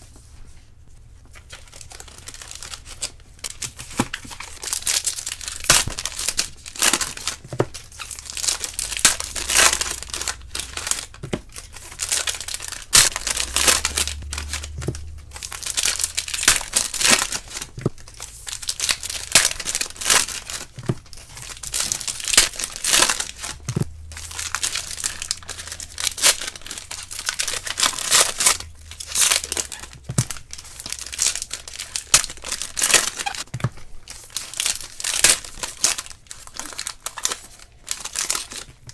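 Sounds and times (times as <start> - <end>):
foil wrappers tearing and crinkling: 1.4 - 38.9.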